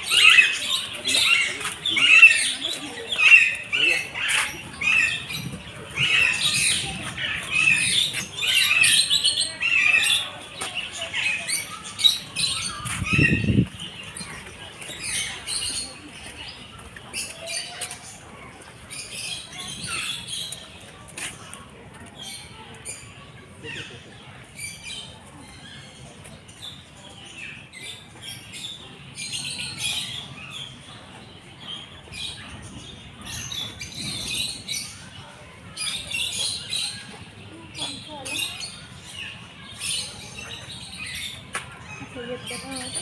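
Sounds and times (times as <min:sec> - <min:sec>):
birds chirping and squawking: 0:00.0 - 0:43.0.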